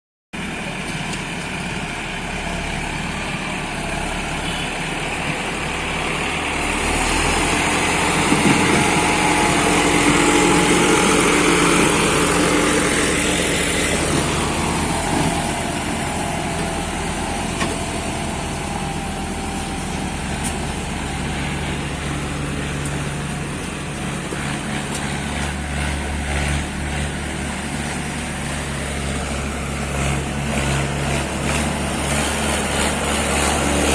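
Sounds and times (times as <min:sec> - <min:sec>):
tractor engine running: 0:00.4 - 0:33.9.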